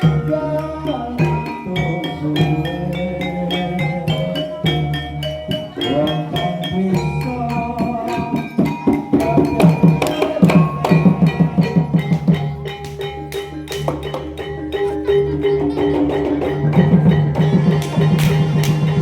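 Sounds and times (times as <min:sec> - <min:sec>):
metallophones ringing melody: 0:00.0 - 0:19.0.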